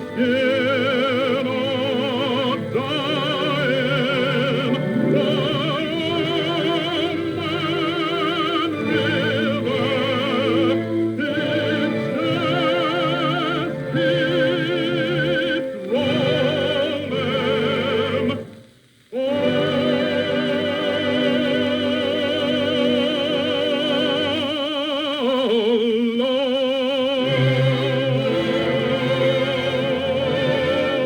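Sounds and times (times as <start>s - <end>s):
orchestra playing: 0.0s - 18.6s, 19.3s - 24.4s, 27.2s - 31.0s
bass-baritone voice singing with vibrato: 0.0s - 31.0s.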